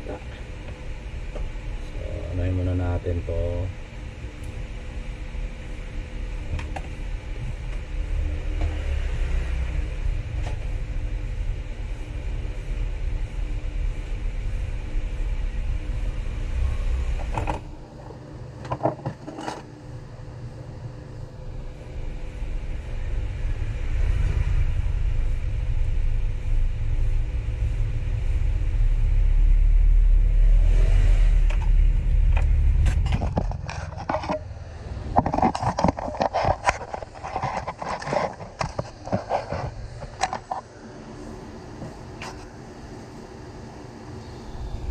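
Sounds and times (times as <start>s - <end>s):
low background rumble: 0.0s - 18.6s, 19.8s - 41.6s, 42.7s - 44.9s
faint constant hum: 0.0s - 44.9s.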